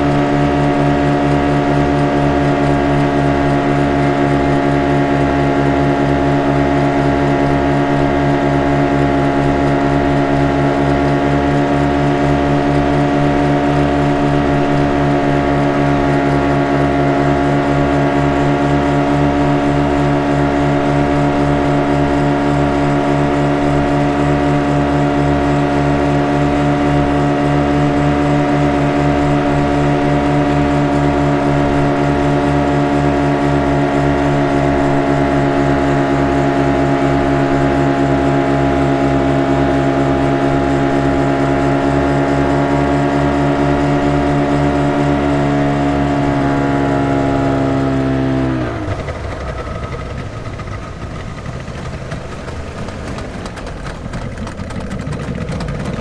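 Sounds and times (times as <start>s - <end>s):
motorboat engine drone: 0.0s - 56.0s.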